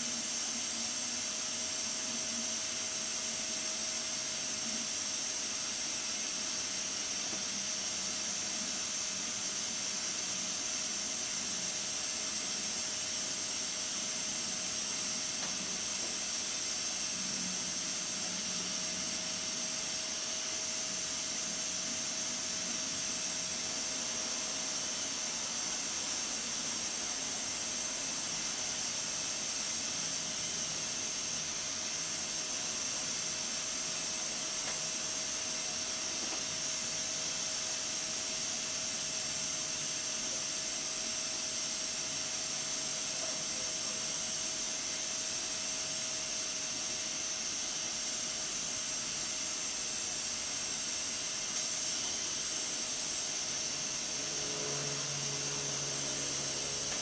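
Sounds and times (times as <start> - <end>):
pressure cooker steam hissing: 0.0 - 57.0.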